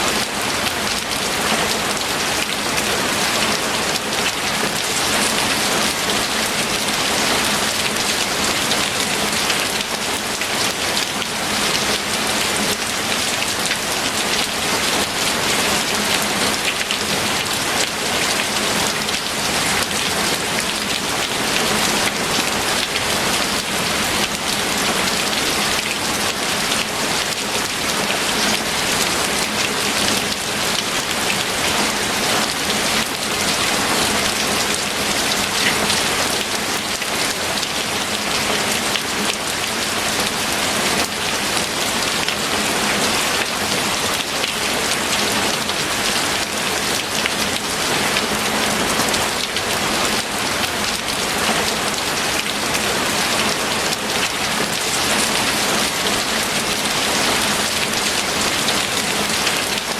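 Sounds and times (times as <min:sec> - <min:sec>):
heavy rain patter: 0:00.0 - 0:59.9.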